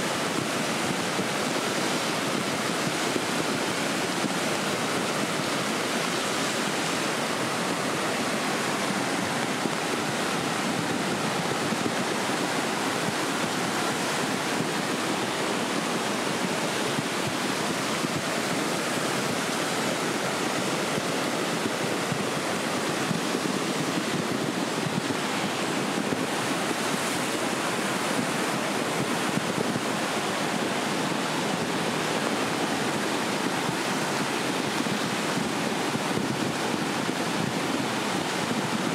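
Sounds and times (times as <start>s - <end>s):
flooded river rushing: 0.0s - 38.9s.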